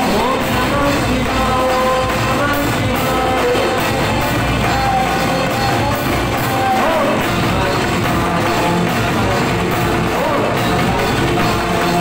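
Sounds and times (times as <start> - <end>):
drum kit with cymbal beat: 0.0 - 12.0
keyboards: 0.0 - 12.0.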